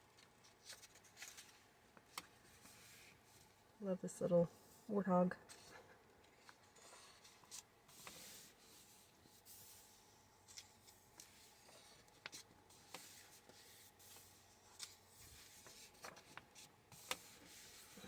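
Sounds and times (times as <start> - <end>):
book pages rustling and turning: 0.0 - 3.7, 5.5 - 18.0.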